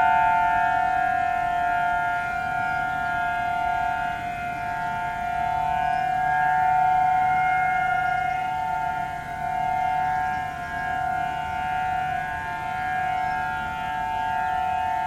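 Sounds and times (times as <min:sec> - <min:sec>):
warning sirens steady alert tone: 0:00.0 - 0:15.0.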